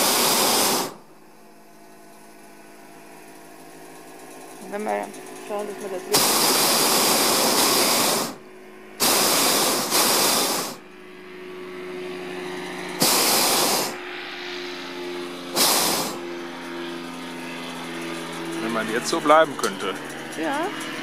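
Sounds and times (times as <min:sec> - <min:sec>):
propane burner blasts: 0:00.0 - 0:21.0.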